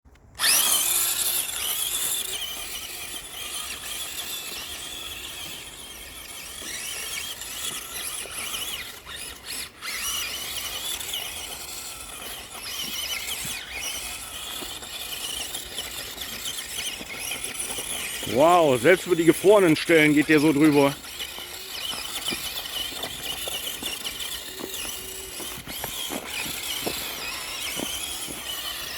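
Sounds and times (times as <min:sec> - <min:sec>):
toy truck motor whining: 0:00.1 - 0:28.9.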